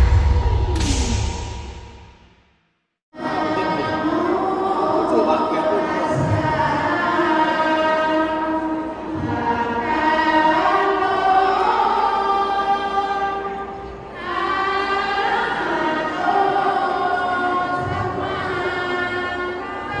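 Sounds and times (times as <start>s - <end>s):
women chanting together: 3.2s - 20.0s.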